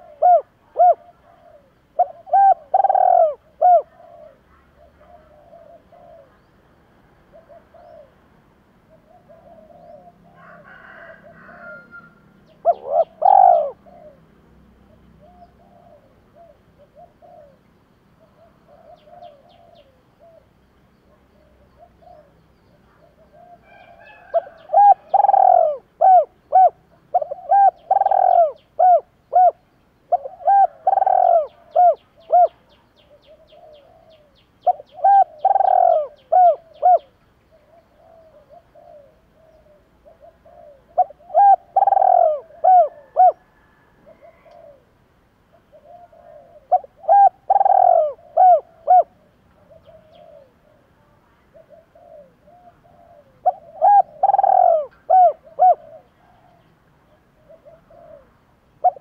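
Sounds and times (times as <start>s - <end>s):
dove cooing: 0.0s - 6.5s, 7.2s - 59.0s.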